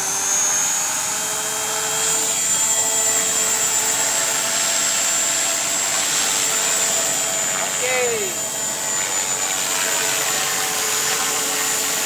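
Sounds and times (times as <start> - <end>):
model helicopter motor whine: 0.0 - 12.0.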